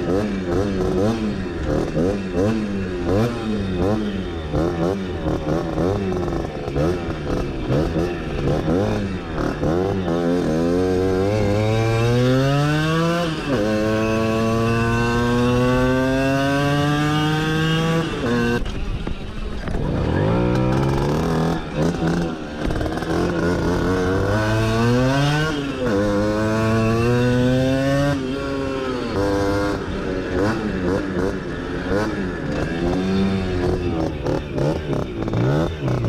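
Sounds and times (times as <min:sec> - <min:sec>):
moped engine under load: 0:00.0 - 0:36.0.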